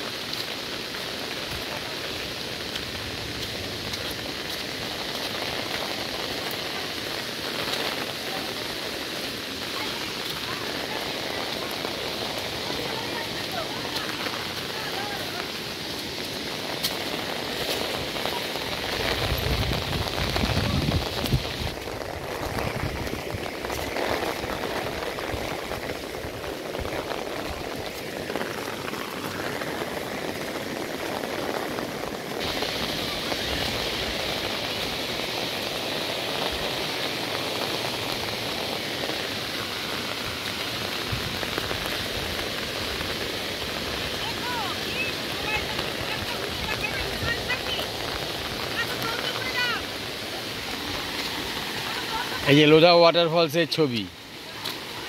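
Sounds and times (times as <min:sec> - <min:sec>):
waterfall and rain hiss: 0:00.0 - 0:55.0.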